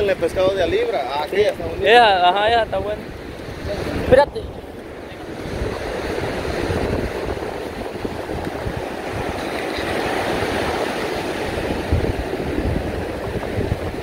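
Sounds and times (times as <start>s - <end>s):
ocean waves washing up beach: 0.0s - 14.0s.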